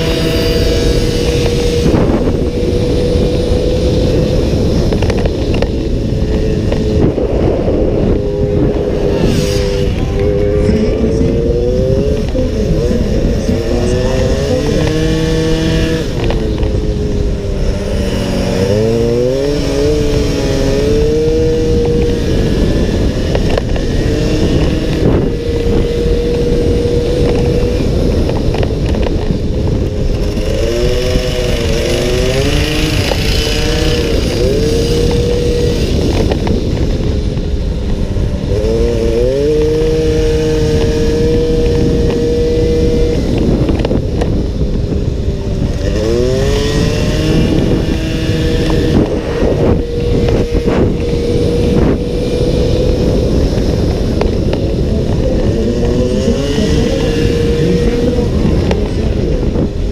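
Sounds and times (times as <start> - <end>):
scooter engine at full throttle: 0.0 - 59.9
wind rushing: 0.0 - 59.9.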